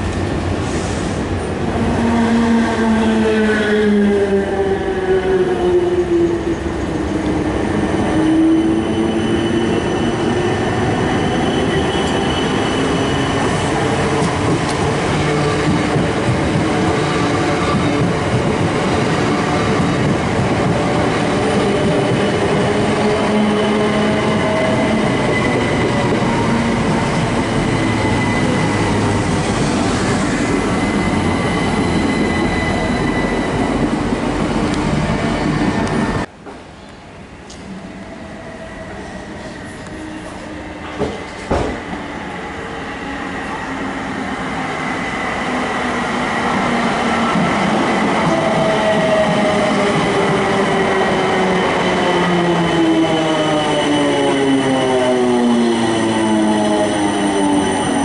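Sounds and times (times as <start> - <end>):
train wheels rumbling on rails: 6.0 - 36.6, 38.8 - 58.0.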